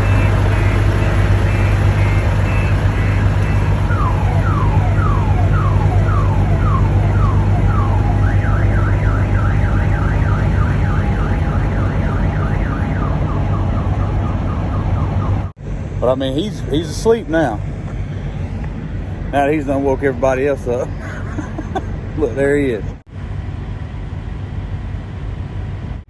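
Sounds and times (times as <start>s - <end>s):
truck backup siren alarm: 0.0s - 23.0s
low hum: 0.0s - 26.0s.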